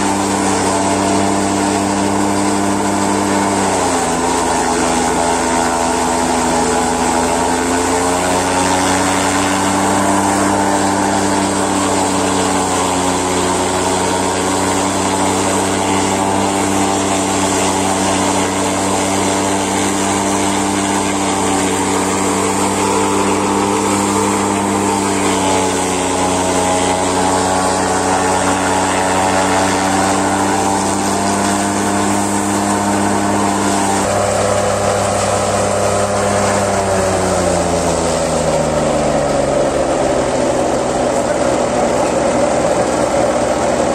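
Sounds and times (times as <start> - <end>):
forage chopper chopping and blowing: 0.0 - 43.9
tractor diesel engine running: 0.0 - 43.9.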